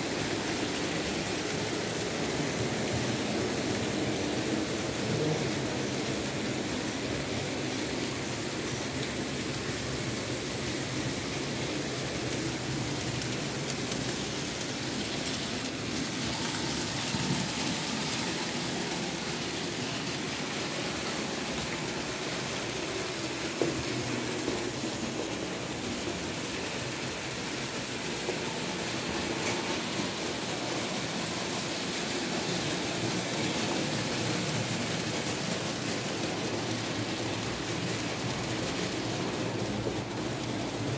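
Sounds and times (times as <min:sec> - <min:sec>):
model train whirring and rattling: 0:00.0 - 0:40.9.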